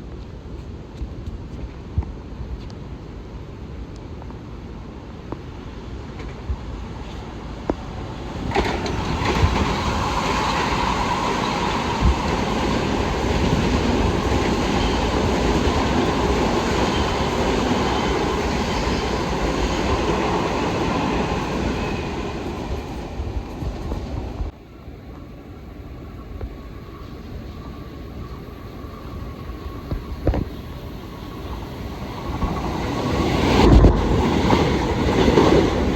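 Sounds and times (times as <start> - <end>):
train wheels rumbling on rail: 0.0 - 35.9.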